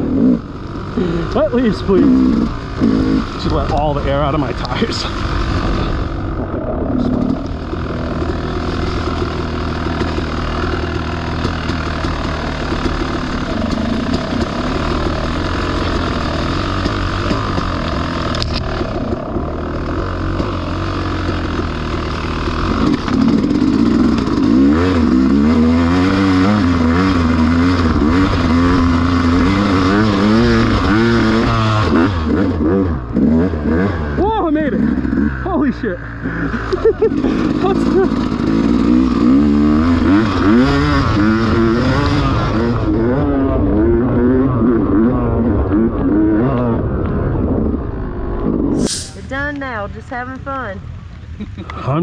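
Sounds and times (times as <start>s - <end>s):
dirt bike engine revving under load: 0.0s - 51.0s.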